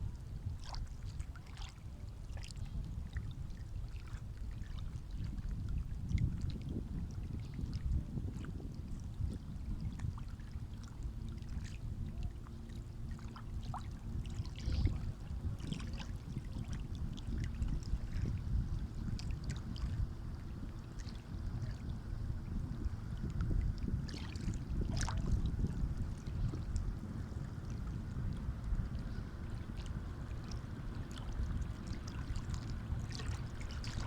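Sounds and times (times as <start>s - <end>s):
faint steady hum: 0.0s - 34.0s
sea waves on a shore: 0.0s - 34.0s
small splashes and trickles: 0.3s - 34.0s.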